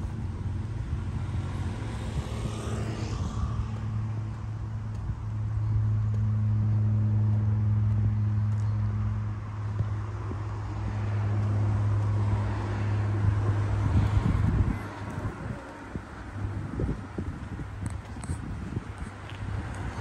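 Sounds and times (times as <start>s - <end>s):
traffic engine hum: 0.0s - 20.0s
vehicle passing: 0.0s - 20.0s.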